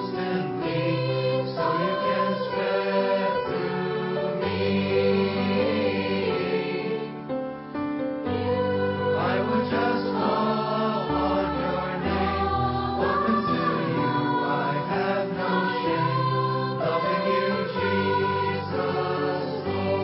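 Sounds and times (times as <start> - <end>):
choir singing a hymn: 0.0 - 20.0.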